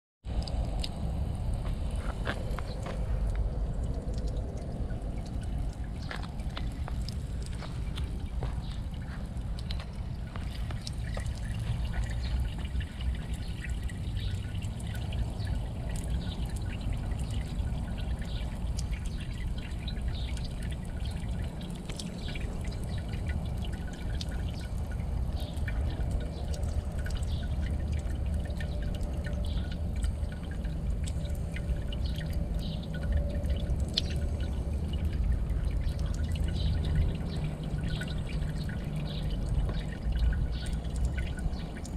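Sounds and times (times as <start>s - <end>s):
water trickling into stone basin: 0.2s - 41.9s
cat lapping water: 0.3s - 41.9s
steady low rumble: 0.3s - 41.9s.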